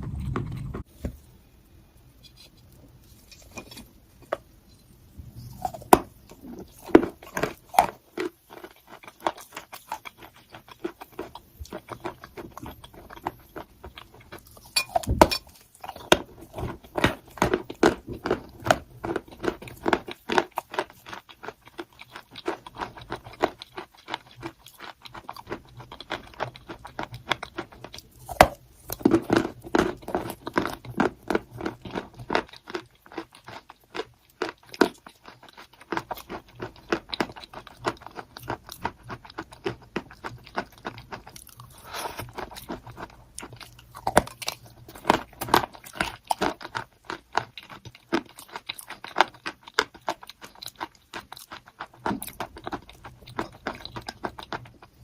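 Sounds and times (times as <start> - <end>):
person chewing crunchy chalk: 5.4 - 55.0.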